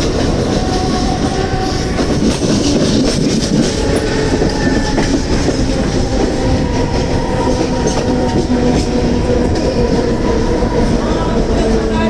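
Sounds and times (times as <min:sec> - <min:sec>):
train motor hum: 0:00.0 - 0:12.0
train wheels clattering on track: 0:00.0 - 0:12.0.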